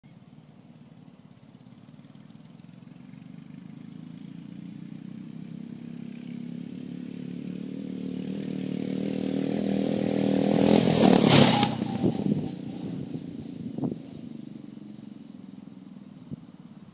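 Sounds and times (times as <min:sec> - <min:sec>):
mini bike engine running: 0:00.4 - 0:16.9.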